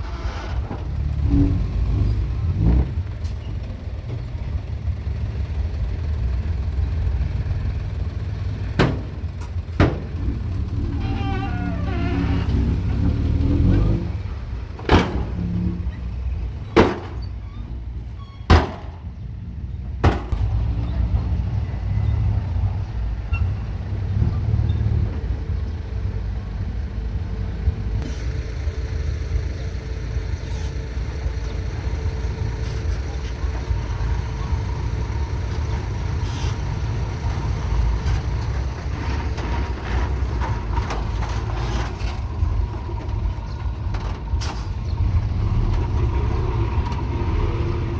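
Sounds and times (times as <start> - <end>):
heavy diesel machinery rumbling: 0.0 - 47.9.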